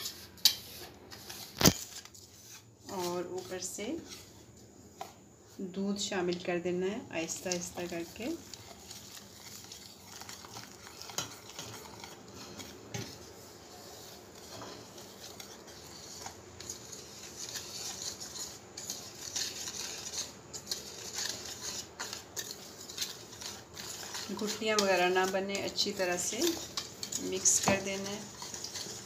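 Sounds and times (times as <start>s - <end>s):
spoon stirring and scraping bowl: 0.0s - 29.0s.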